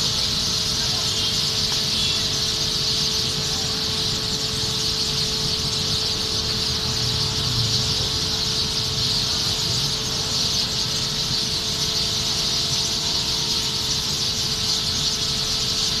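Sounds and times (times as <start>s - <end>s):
large flock of birds calling: 0.0s - 16.0s.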